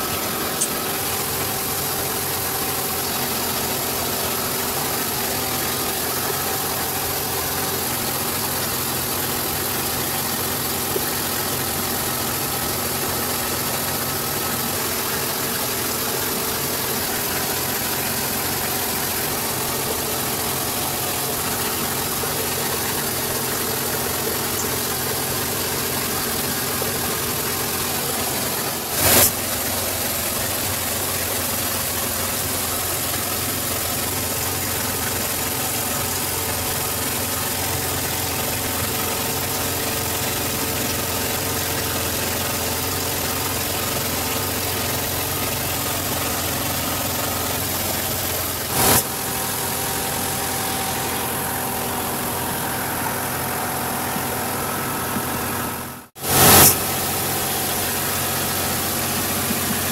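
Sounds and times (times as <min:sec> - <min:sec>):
engine room machinery drone: 0:00.0 - 0:59.9.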